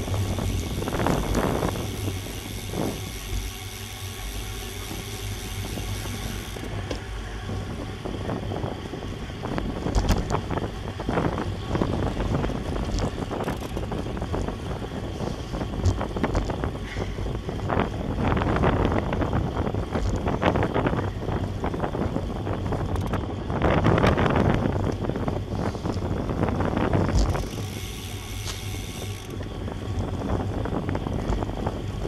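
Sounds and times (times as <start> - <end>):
road noise: 0.0 - 32.0
wind buffeting microphone: 0.0 - 32.0.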